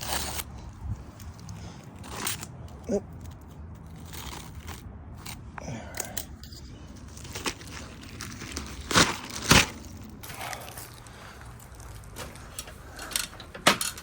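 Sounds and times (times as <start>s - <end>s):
scraping and crackling on roof shingles: 0.0s - 5.4s, 6.8s - 14.0s.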